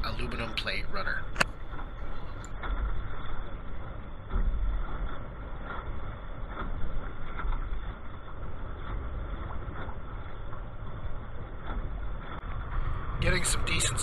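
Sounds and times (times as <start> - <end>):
water splashing along metal hull: 0.0 - 14.0
wind buffeting microphone: 0.0 - 14.0.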